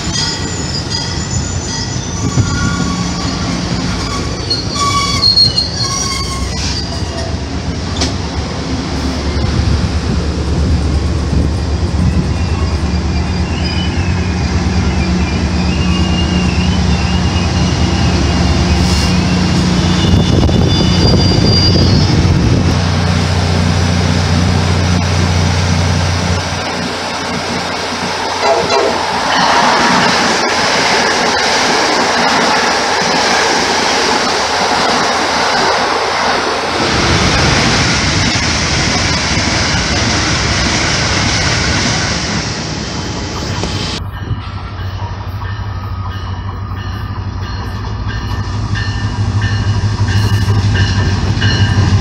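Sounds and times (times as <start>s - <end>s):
train rushing and rumbling on rails: 0.0s - 52.0s.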